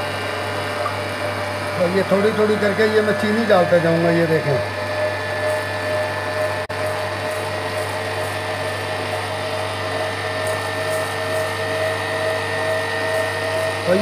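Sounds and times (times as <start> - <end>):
stand mixer motor whining: 0.0 - 14.0
whisk beating in metal bowl: 0.5 - 14.0.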